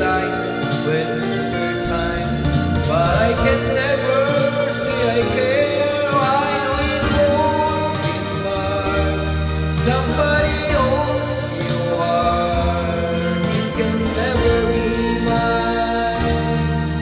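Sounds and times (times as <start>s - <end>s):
backing track music: 0.0s - 17.0s
man singing karaoke: 0.0s - 17.0s.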